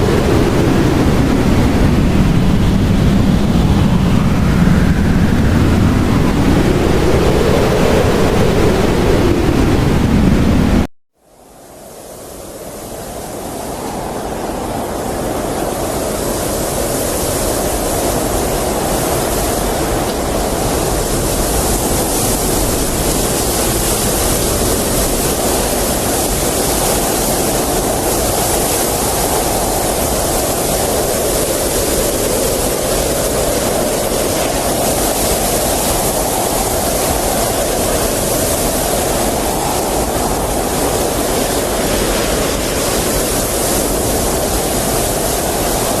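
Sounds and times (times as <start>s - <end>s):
blizzard wind blowing: 0.0s - 46.0s.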